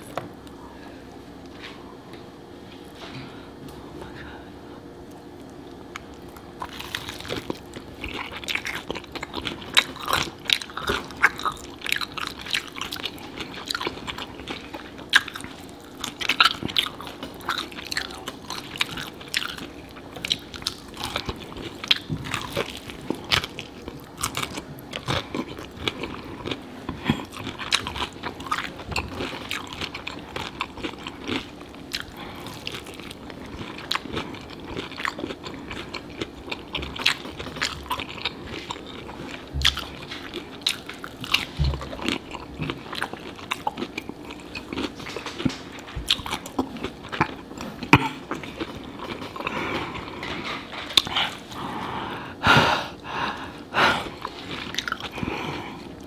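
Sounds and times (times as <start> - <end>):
chewing fried chicken: 4.8 - 56.0.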